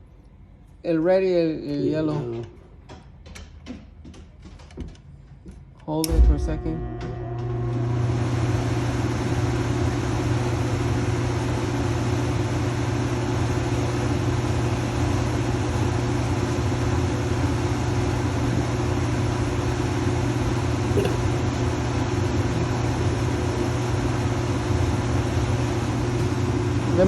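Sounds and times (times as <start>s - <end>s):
blower fan humming: 0.0s - 27.0s.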